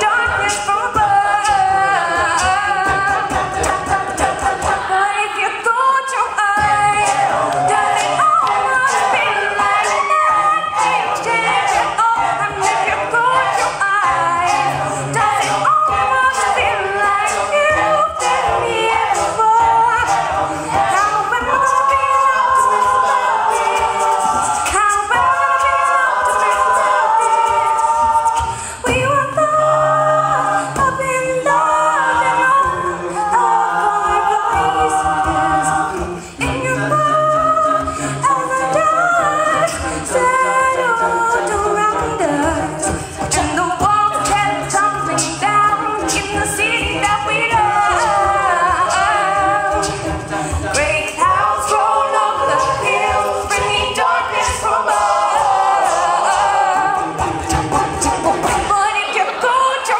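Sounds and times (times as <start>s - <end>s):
a cappella group singing: 0.0s - 59.9s
female lead vocal: 0.0s - 59.9s
vocal percussion: 0.0s - 59.9s.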